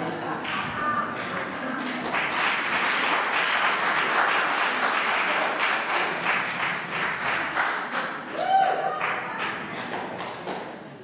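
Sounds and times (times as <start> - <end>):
congregation applauding: 0.4 - 10.8.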